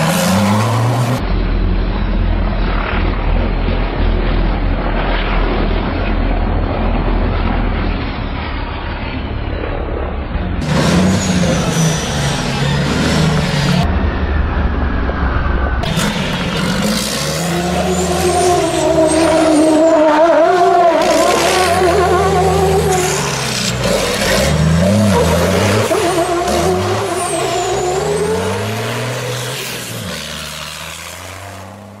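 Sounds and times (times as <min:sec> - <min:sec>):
diesel engine revving: 0:00.0 - 0:08.7, 0:10.4 - 0:32.0
wavering whine: 0:00.5 - 0:29.7.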